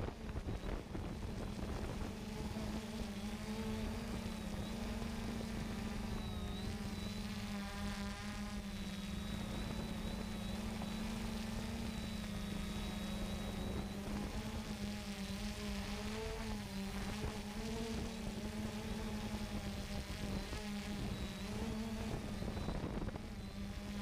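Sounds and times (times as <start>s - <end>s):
quadcopter propellers buzzing: 0.0s - 24.0s.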